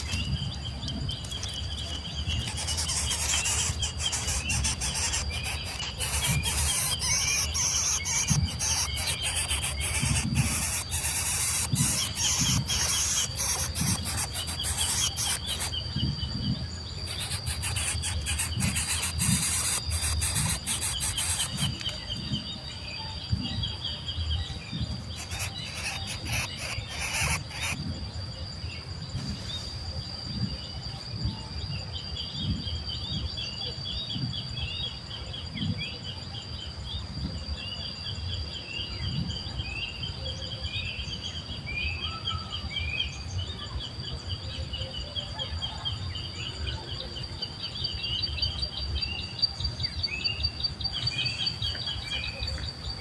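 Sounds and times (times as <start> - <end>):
small birds chirping: 0.0 - 30.8, 38.1 - 53.0
high insect drone: 0.0 - 53.0.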